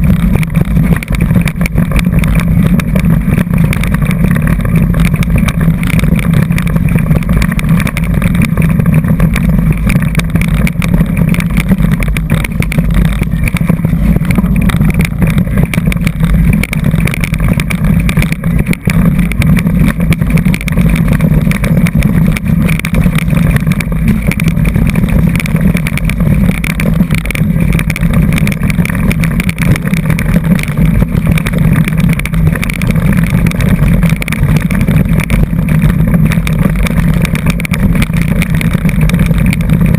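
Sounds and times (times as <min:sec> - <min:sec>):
bike knocking and rattling: 0:00.0 - 0:39.9
wind buffeting microphone: 0:00.0 - 0:39.9.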